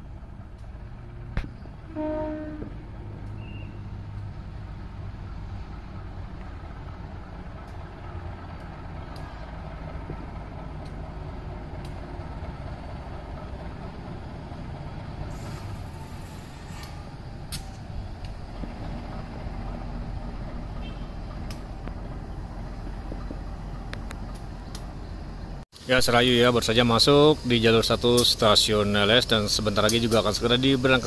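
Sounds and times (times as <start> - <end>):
locomotive engine rumble: 0.0 - 31.0.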